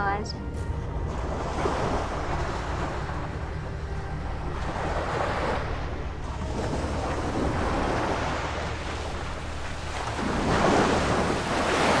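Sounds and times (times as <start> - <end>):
sea waves washing: 1.0 - 12.0.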